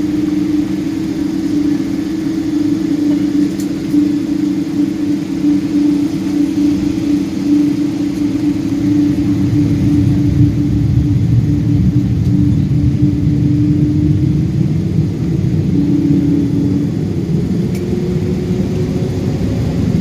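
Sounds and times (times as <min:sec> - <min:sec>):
jet engine cabin roar: 0:00.0 - 0:20.0.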